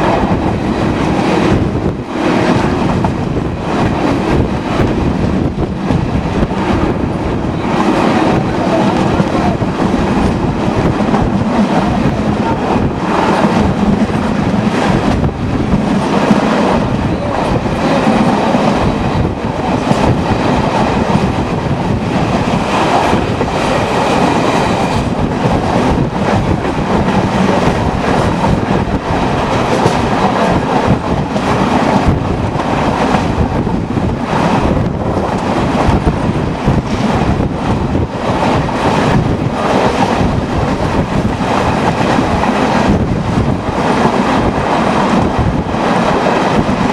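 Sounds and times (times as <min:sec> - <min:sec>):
train rumble and rattle: 0:00.0 - 0:46.9
wheels clacking over rail joints: 0:01.1 - 0:46.9.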